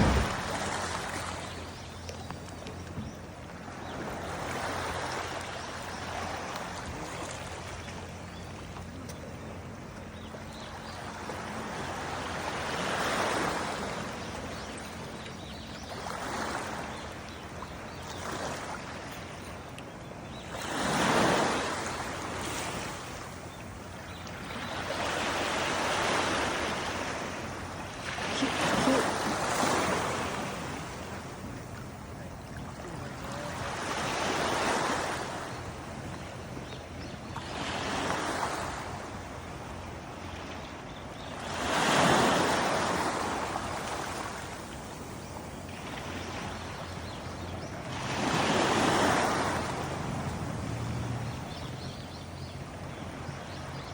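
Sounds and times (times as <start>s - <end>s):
sea waves washing ashore: 0.0s - 53.9s.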